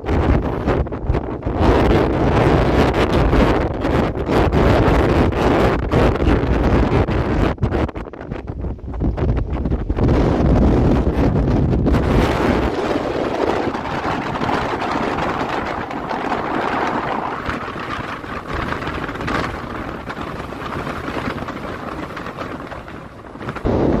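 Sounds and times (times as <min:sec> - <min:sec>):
low rumble: 0:00.0 - 0:24.0
wind buffeting microphone: 0:00.0 - 0:24.0.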